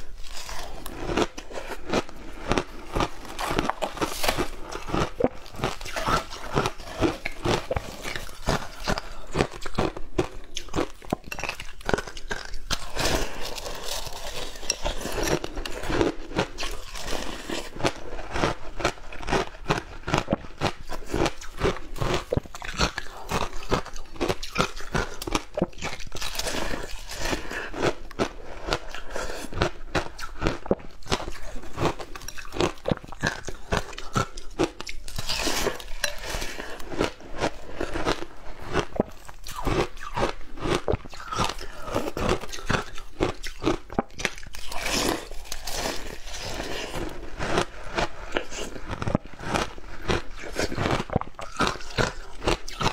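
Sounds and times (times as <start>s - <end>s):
crunchy ice being chewed: 0.0s - 52.9s.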